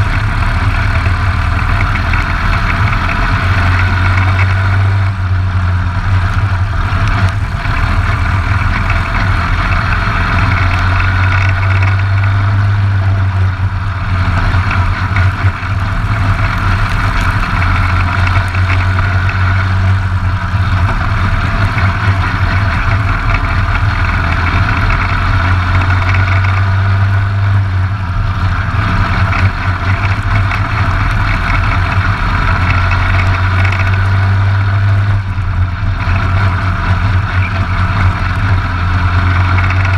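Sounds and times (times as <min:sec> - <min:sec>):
kart engine drone: 0:00.0 - 0:39.9.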